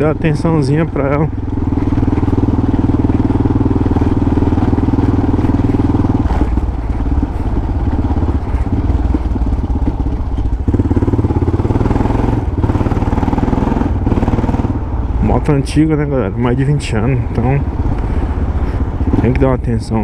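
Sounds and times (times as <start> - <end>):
motorcycle engine running loud: 0.0 - 20.0.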